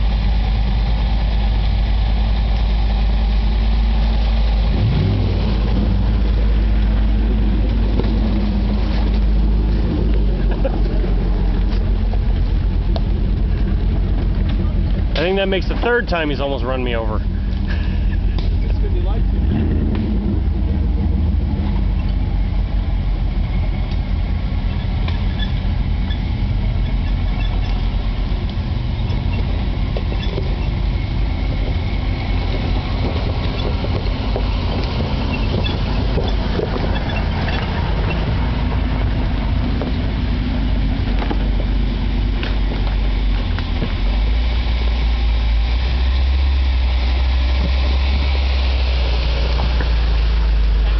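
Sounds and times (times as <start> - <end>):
off-road engines rumbling: 0.0 - 50.9.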